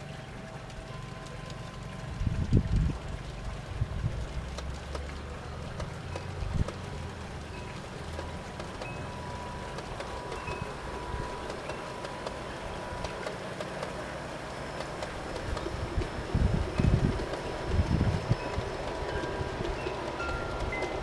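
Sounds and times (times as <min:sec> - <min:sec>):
freight train rolling: 0:00.0 - 0:21.0
wheels clicking over track: 0:00.0 - 0:21.0.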